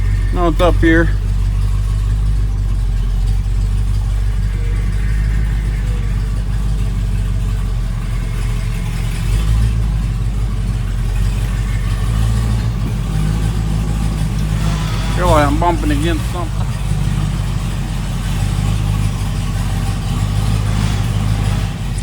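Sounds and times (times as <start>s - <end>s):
truck engine running at low revs: 0.0s - 22.0s.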